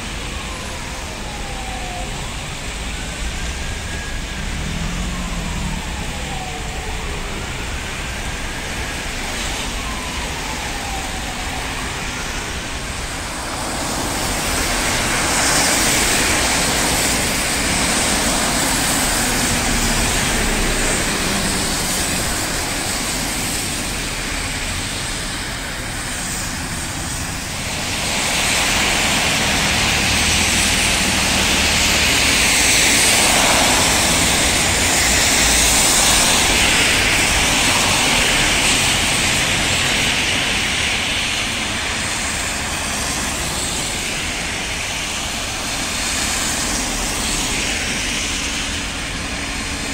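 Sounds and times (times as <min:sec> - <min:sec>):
tyres hissing on wet road: 0:00.0 - 0:49.9.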